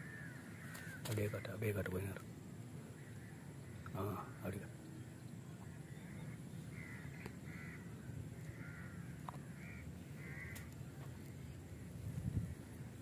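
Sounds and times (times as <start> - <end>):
bird calling faintly: 0.0 - 13.0.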